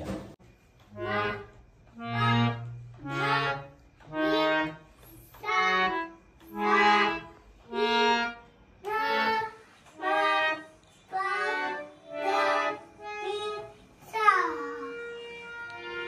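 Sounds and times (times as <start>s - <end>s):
harmonium notes and chords: 0.7s - 16.0s.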